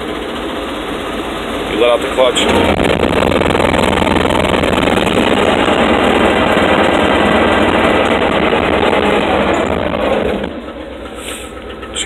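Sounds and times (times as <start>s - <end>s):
fast mechanical rattle: 0.0s - 12.0s
truck engine at raised revs: 0.0s - 12.0s.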